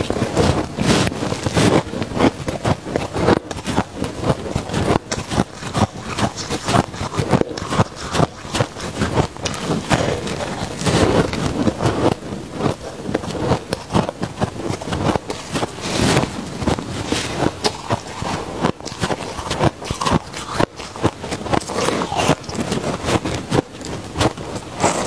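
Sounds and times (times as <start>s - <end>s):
ice being bitten and chewed: 0.0s - 25.0s.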